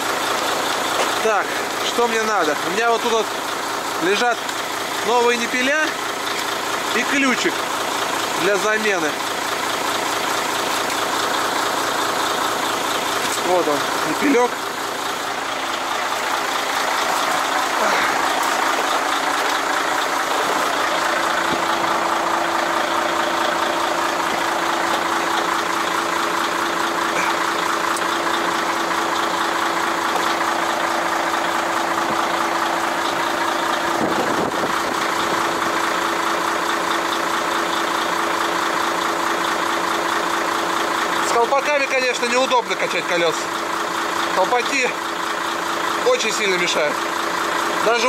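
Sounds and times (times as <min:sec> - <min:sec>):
truck diesel engine idling: 0:00.0 - 0:48.0.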